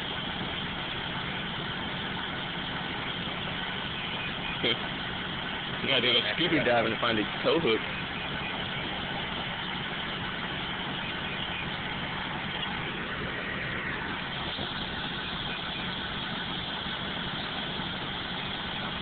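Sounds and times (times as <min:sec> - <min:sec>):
steady hiss: 0:00.0 - 0:19.0
vehicle engine idling: 0:00.0 - 0:19.0.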